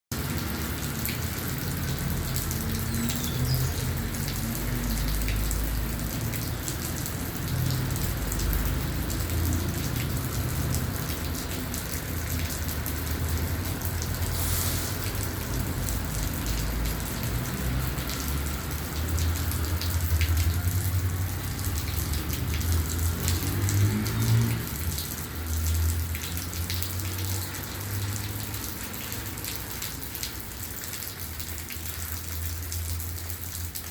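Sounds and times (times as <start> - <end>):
steady rain drops: 0.1 - 33.9.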